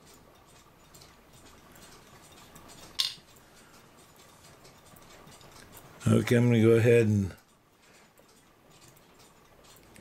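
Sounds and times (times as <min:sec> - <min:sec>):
faint clicks of small parts: 0:00.0 - 0:10.0.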